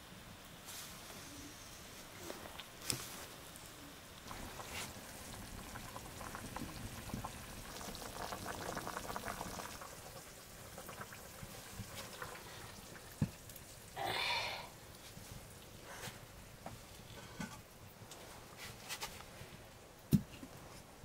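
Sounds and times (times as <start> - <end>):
food bubbling and sizzling in pot: 0.0 - 21.0.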